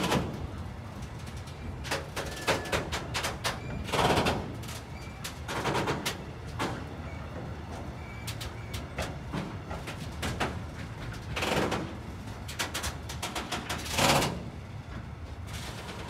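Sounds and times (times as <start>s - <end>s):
freight train wheels clattering: 0.0s - 16.0s
loud train rattles: 0.0s - 16.0s
train low rumble: 0.0s - 16.0s.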